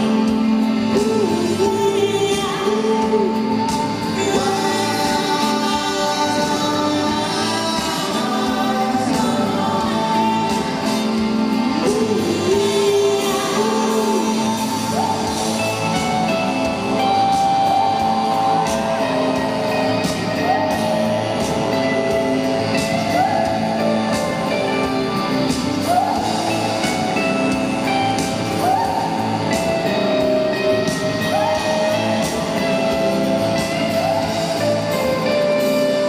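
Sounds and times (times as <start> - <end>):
live rock band playing: 0.0 - 36.0
person singing: 0.0 - 36.0.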